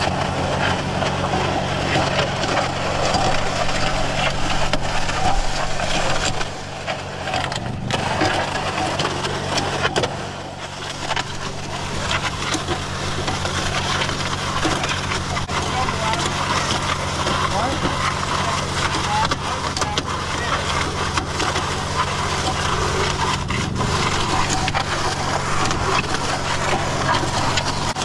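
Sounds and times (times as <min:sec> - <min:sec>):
concrete churning with gritty rasp: 0:00.0 - 0:28.0
concrete mixer motor hum: 0:00.0 - 0:28.0.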